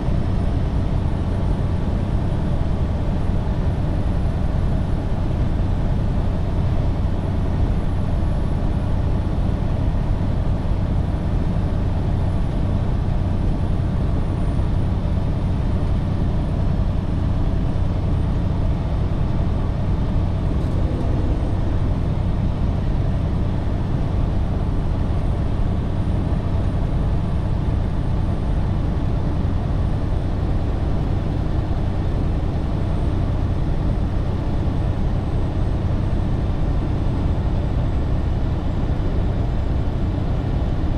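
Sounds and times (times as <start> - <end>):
road and tyre noise: 0.0 - 37.8
truck engine drone: 0.0 - 40.9.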